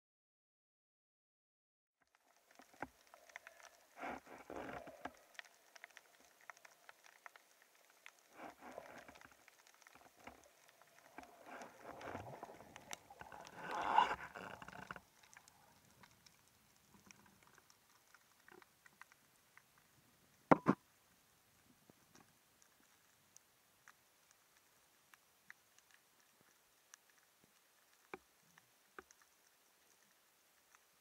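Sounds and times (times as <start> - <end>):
faint scattered crackling: 2.0 - 31.0
underwater water noise: 2.0 - 31.0.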